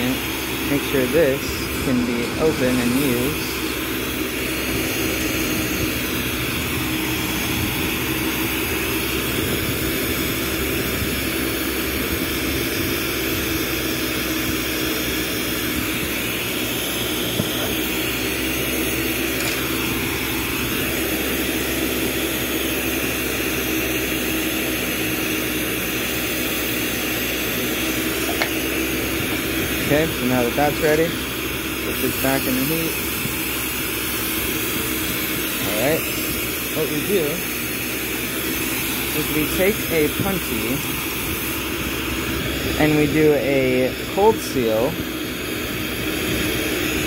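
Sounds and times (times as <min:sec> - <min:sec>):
torch roaring and hissing: 0:00.0 - 0:47.0.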